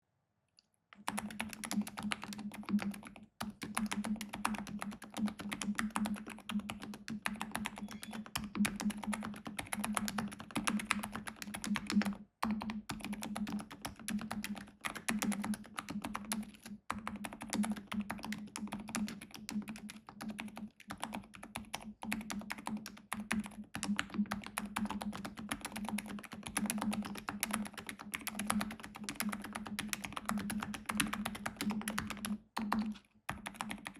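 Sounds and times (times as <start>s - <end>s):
soft mechanical keyboard typing: 1.0s - 33.9s.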